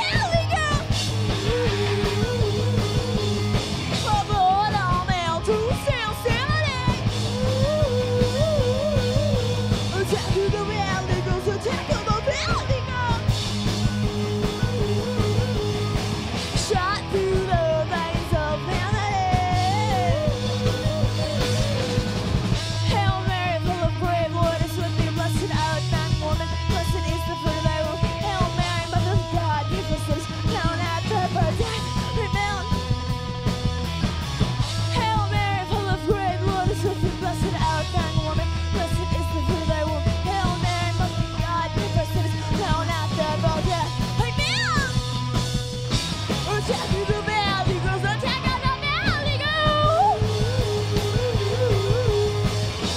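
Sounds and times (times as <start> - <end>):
woman singing: 0.0 - 13.3, 16.5 - 22.0, 22.6 - 33.0, 34.8 - 45.0, 46.4 - 52.9
drums: 0.0 - 52.9
electric bass: 0.0 - 52.9.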